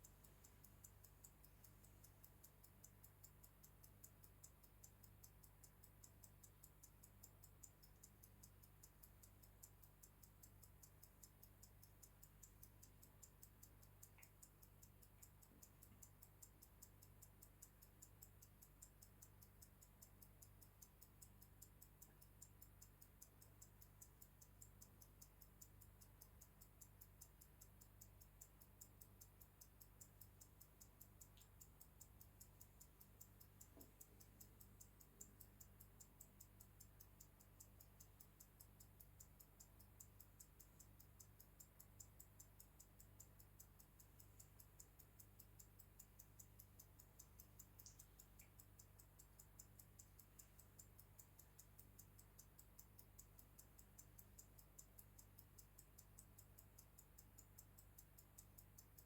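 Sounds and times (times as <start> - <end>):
pocket watch ticking: 0.0 - 59.0.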